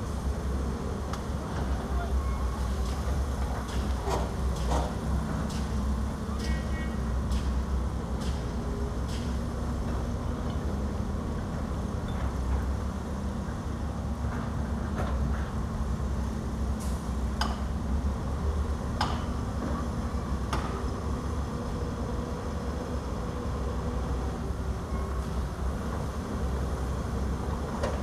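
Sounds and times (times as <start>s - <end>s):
diesel machinery engines rumbling: 0.0s - 28.0s.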